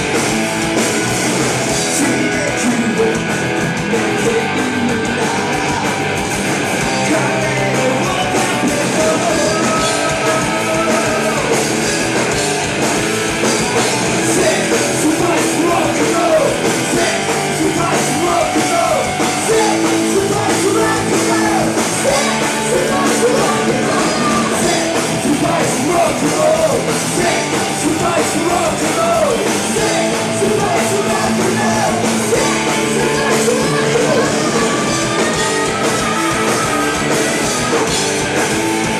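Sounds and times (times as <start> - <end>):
bass guitar: 0.0 - 38.9
distorted electric guitars: 0.0 - 38.9
drums: 0.0 - 38.9
person singing: 1.9 - 6.0, 6.8 - 11.8, 14.2 - 38.2.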